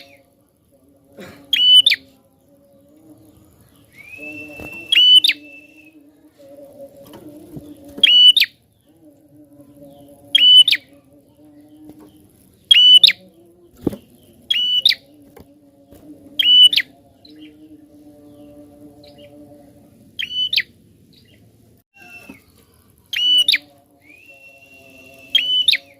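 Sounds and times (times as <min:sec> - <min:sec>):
bird chirping: 0:00.0 - 0:00.7, 0:01.5 - 0:25.9
faint low hum: 0:00.0 - 0:25.9.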